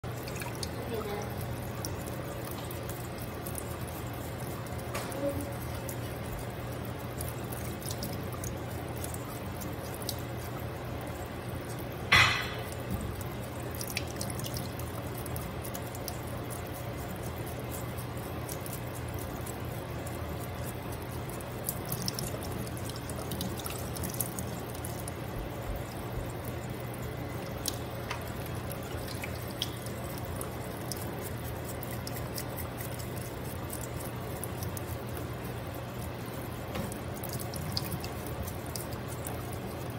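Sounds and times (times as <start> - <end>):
water running into a sink: 0.0 - 39.9.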